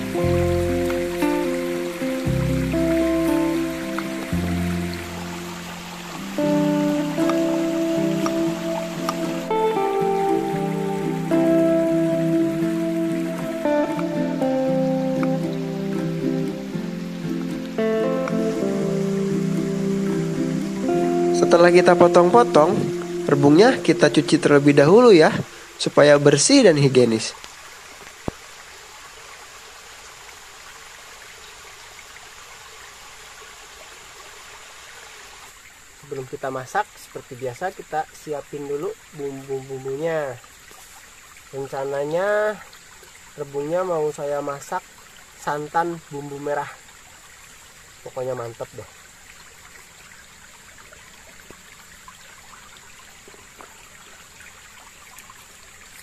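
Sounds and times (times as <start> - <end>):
outdoor hiss: 0.0 - 56.0
stream trickling over rocks: 0.0 - 56.0.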